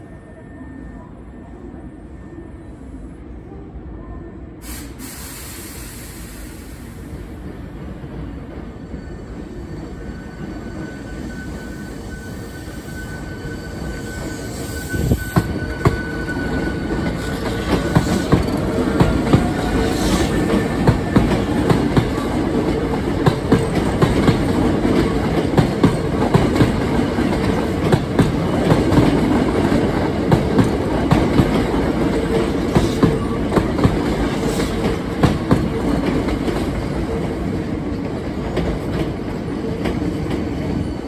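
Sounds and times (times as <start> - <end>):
train rumble: 4.6 - 41.0.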